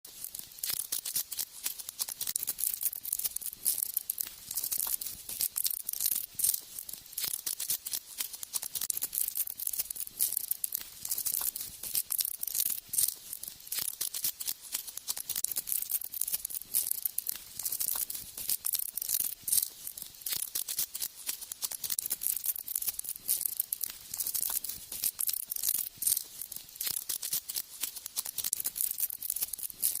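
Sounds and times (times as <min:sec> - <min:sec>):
dense crackling of small clicks: 0:00.1 - 0:30.0.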